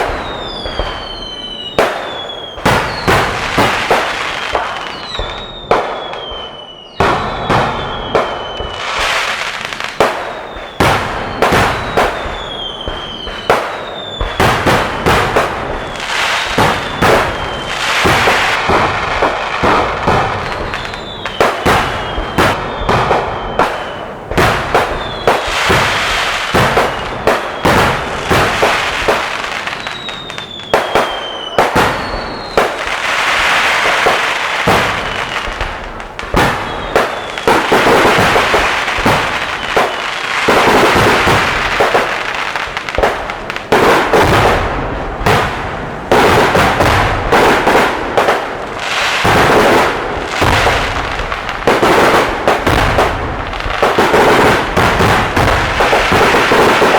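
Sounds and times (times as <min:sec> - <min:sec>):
crackling hiss: 0:00.0 - 0:56.9
fireworks bangs: 0:00.0 - 0:56.9
whistling fireworks shells: 0:00.0 - 0:56.9.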